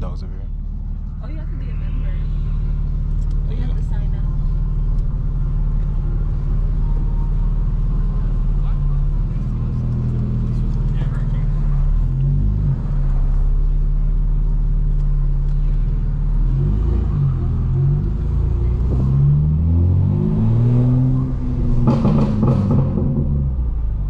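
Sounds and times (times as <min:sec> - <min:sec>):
car engine running at low speed: 0:00.0 - 0:24.0
exhaust crackling: 0:00.0 - 0:24.0.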